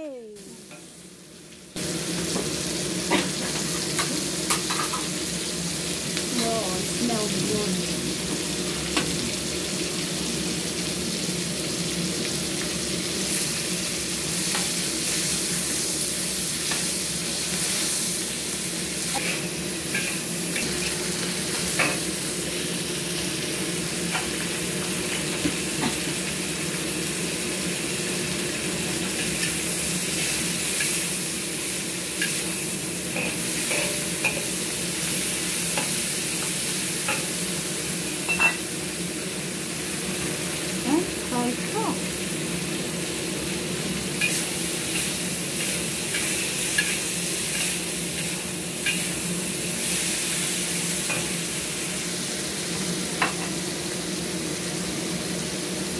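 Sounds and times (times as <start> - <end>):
prawns sizzling in oil: 0.0 - 55.9.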